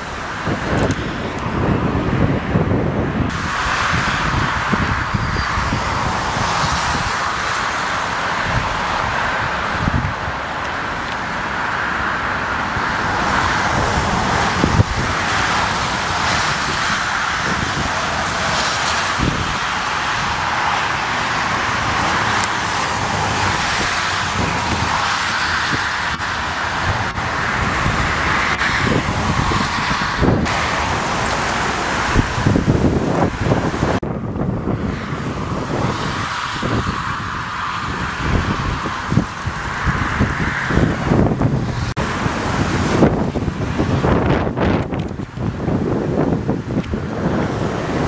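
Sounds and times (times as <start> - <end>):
jet engines at high power: 0.0 - 48.0
wind buffeting microphone: 0.0 - 48.0.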